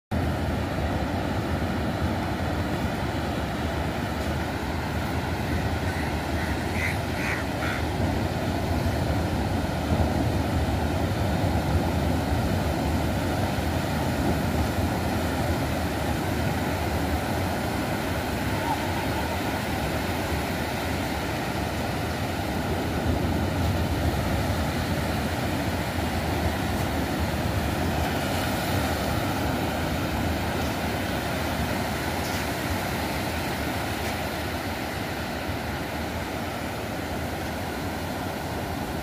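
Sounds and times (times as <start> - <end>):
waves breaking on beach: 0.1 - 39.0.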